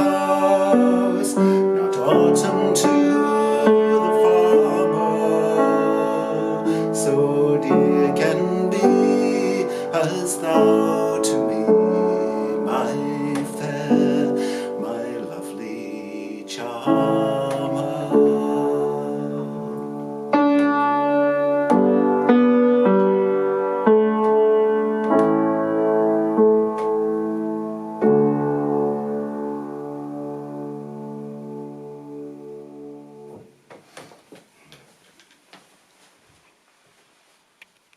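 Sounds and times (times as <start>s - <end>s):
out-of-tune piano chords: 0.0s - 33.5s.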